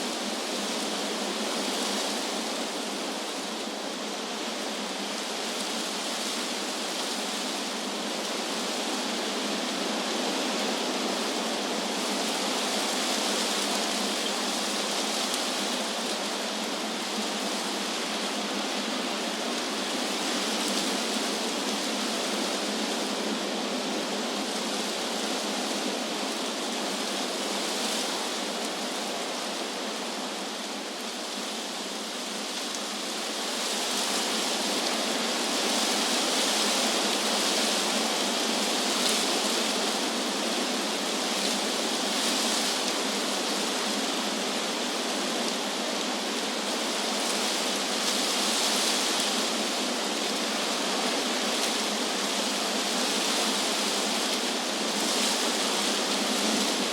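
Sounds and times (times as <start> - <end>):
wind blowing through trees: 0.0 - 56.9.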